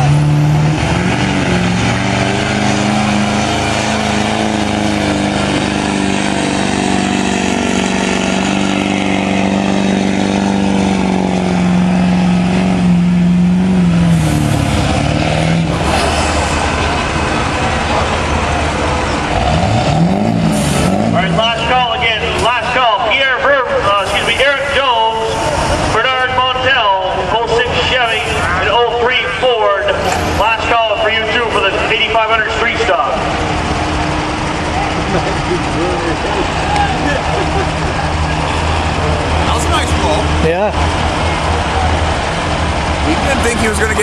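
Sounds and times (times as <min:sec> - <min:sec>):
diesel truck engine at high revs: 0:00.0 - 0:44.0.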